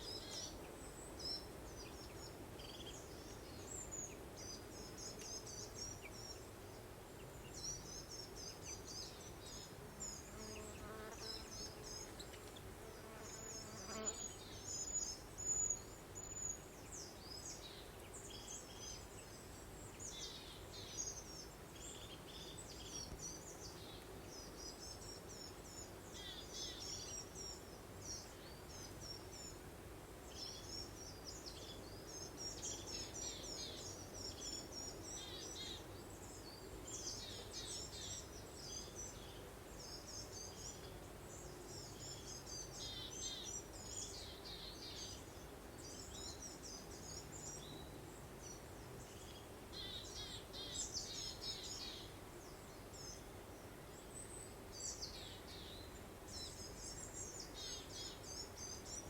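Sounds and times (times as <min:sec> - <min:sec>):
soft hiss of breeze: 0:00.0 - 0:59.0
songbirds chirping and twittering: 0:00.0 - 0:59.0.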